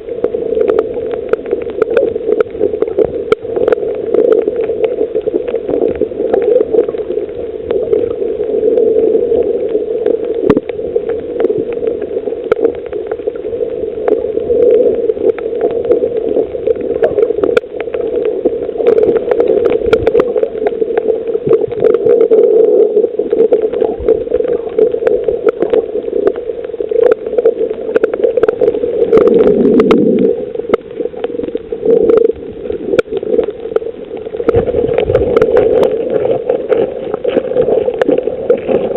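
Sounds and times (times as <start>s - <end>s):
sharp clicks and crackles: 0.0s - 38.9s
underwater rushing hum: 0.0s - 38.9s.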